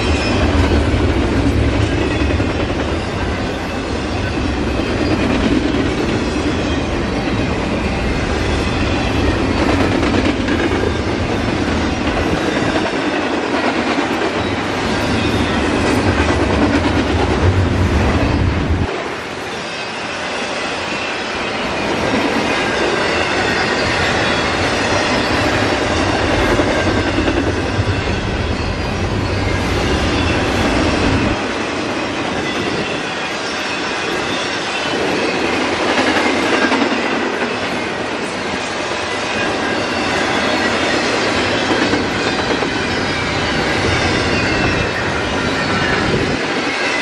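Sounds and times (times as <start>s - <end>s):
train wheels rolling on rails: 0.0s - 47.0s.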